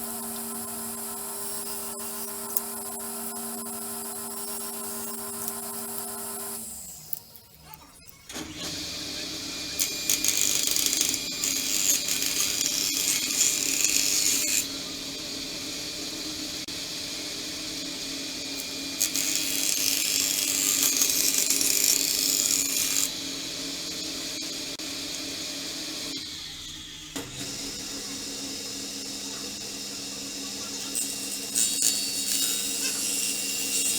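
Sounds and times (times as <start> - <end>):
power tool motor hum: 0.0 - 7.4, 8.3 - 33.9.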